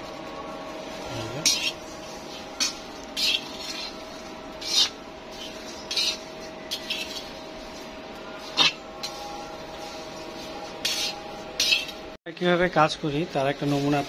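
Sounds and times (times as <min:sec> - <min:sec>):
utensil scraping hard surface: 0:00.6 - 0:12.2.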